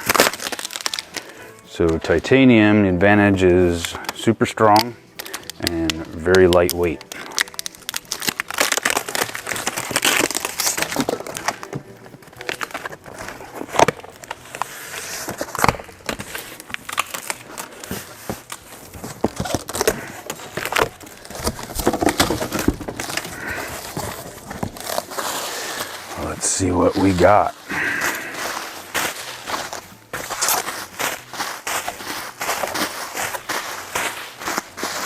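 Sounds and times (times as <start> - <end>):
packaging rustling and tearing: 0.0 - 1.5, 3.9 - 35.0.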